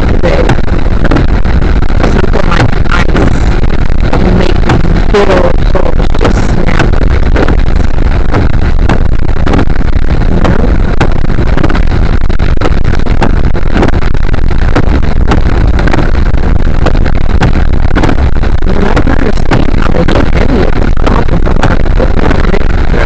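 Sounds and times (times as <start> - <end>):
microphone distortion crackling: 0.0 - 23.0.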